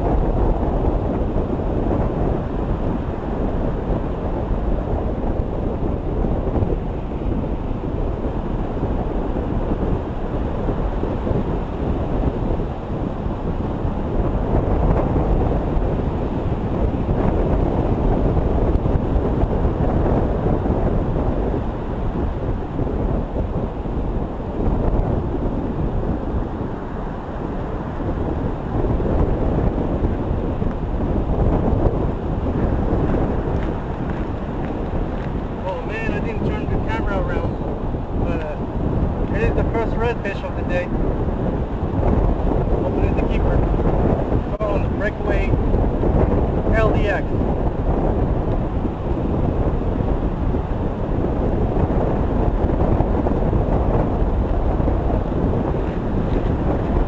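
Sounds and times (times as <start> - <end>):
surf breaking on beach: 0.0 - 57.0
wind buffeting microphone: 0.0 - 57.0.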